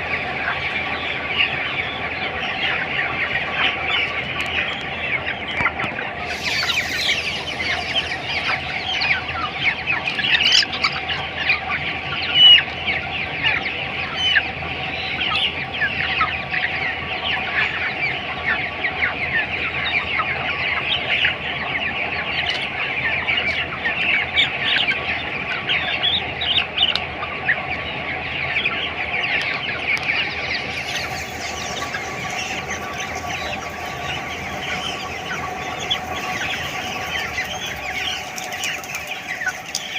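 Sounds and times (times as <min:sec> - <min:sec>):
chickens cheeping and clucking: 0:00.0 - 0:39.9
faint steady hum: 0:00.0 - 0:39.9.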